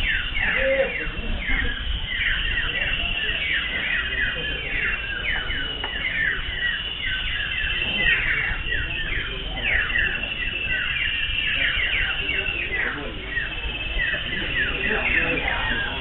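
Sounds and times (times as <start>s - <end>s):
birds whistling in chorus: 0.0s - 16.0s.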